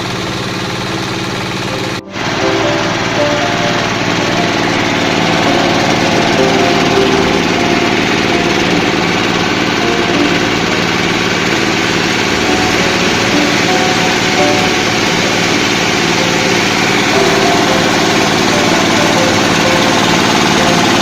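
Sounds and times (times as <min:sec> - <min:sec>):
machine droning: 0:00.0 - 0:21.0.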